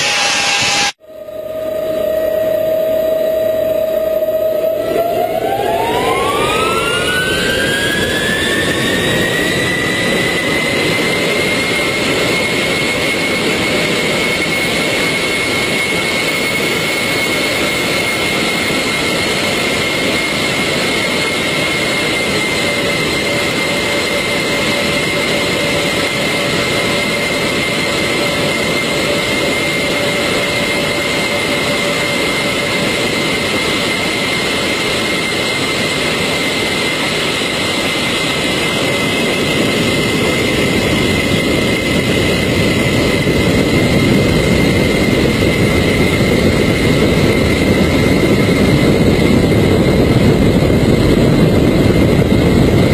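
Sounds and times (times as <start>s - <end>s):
jet engines whining: 0.0s - 52.9s.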